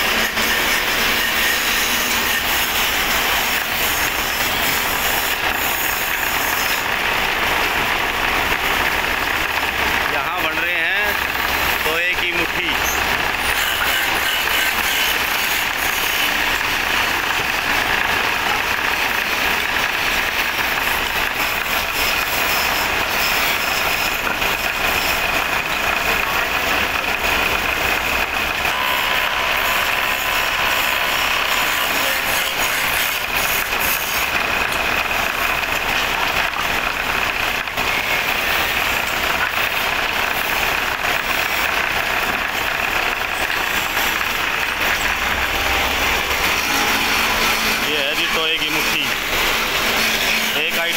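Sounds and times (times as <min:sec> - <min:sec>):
turning tool scraping wood: 0:00.0 - 0:07.0, 0:10.2 - 0:50.9
wood lathe running: 0:00.0 - 0:50.9.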